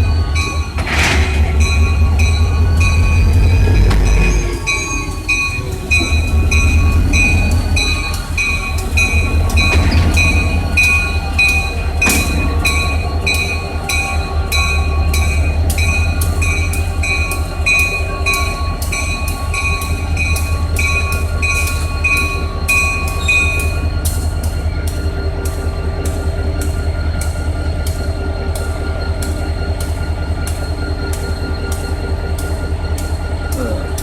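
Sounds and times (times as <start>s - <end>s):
locomotive bell ringing: 0.0s - 34.0s
train rumble: 0.0s - 34.0s.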